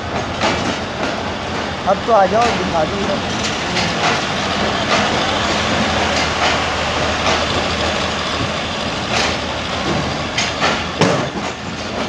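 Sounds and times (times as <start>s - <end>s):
train rail rumble: 0.0s - 12.0s
sharp wheel clacks: 0.1s - 12.0s.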